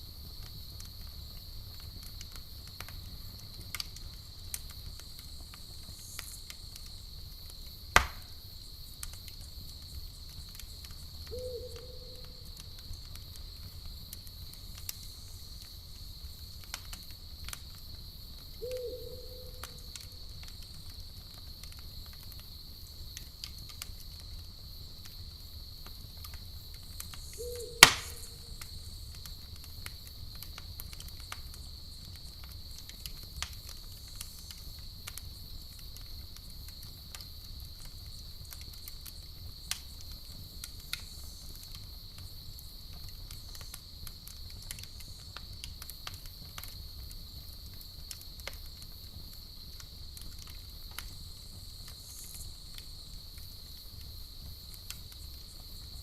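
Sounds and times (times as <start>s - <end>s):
campfire crackling: 0.0s - 56.0s
crickets chirring: 0.0s - 56.0s.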